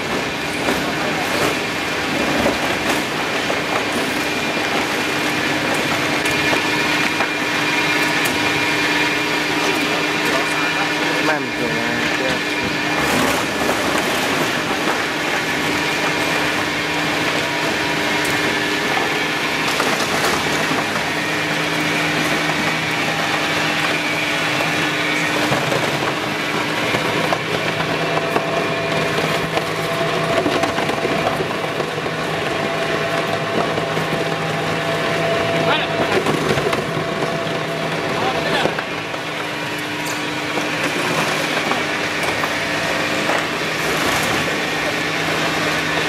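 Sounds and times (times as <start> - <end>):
steady motor hum: 0.0 - 46.0.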